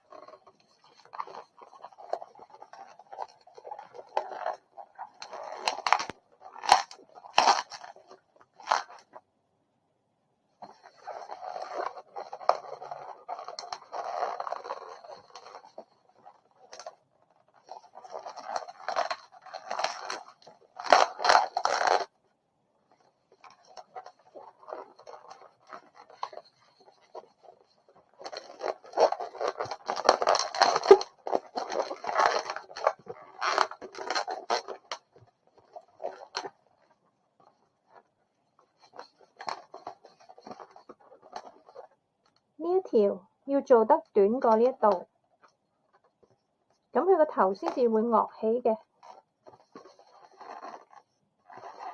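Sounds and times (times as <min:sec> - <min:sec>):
balloons squeaking and rubbing: 0:00.0 - 0:09.2, 0:10.6 - 0:22.1, 0:22.9 - 0:42.0, 0:47.0 - 0:51.9.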